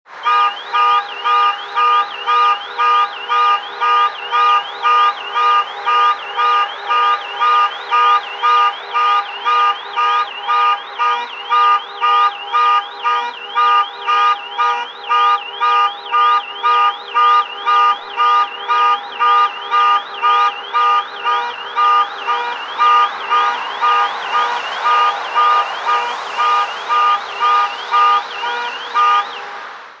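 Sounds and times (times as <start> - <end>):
car alarm pulsing tone: 0.2 - 29.6.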